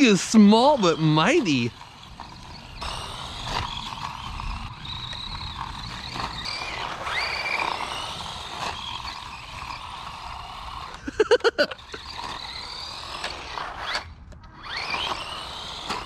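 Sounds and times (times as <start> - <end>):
toy truck electric motor whining: 0.0 - 16.0
toy truck hitting ground: 1.7 - 11.1, 11.7 - 16.0.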